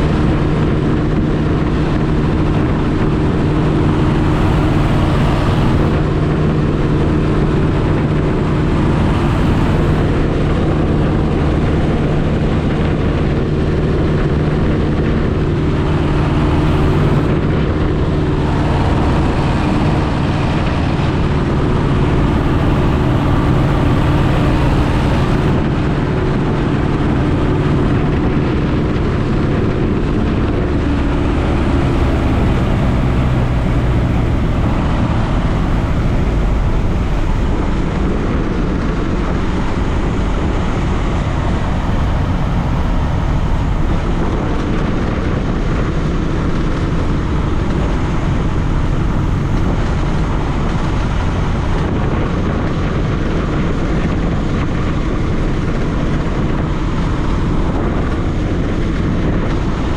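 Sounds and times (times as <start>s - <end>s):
airplane engine and propeller droning: 0.0s - 59.9s
wind noise: 0.0s - 59.9s.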